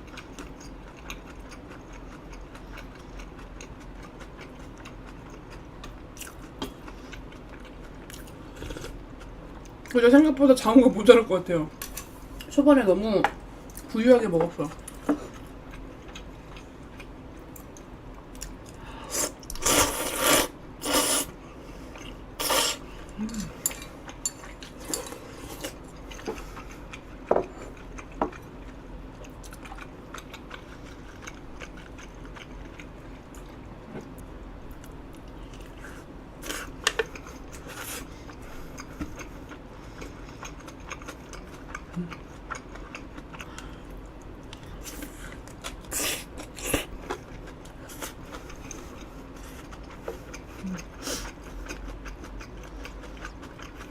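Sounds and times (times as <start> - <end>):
quiet chewing: 0.0 - 10.0, 14.8 - 20.1, 21.8 - 53.9.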